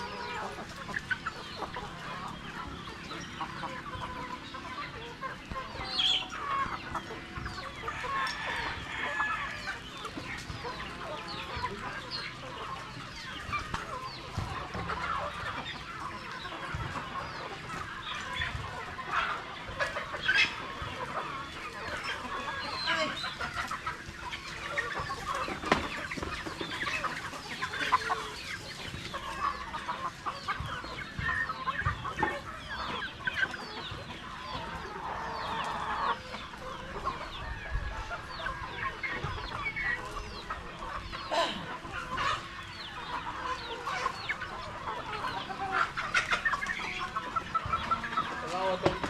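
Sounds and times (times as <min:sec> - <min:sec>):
chickens clucking and calling: 0:00.0 - 0:49.0.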